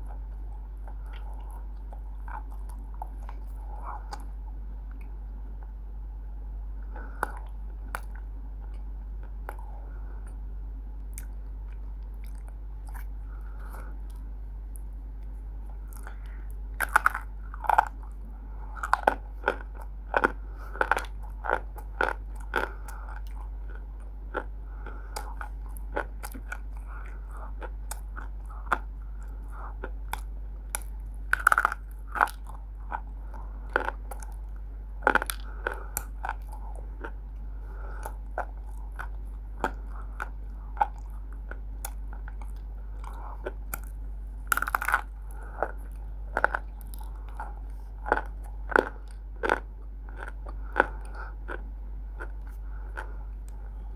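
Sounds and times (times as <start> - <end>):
person crunching and chewing clay: 0.0 - 5.9, 6.6 - 53.9
steady low hum: 0.0 - 53.9.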